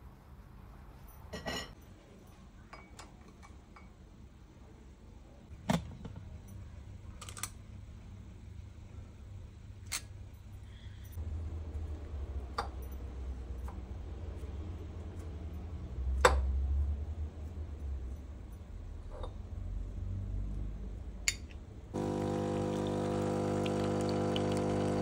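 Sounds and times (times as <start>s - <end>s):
low steady hum: 3.7s - 25.0s.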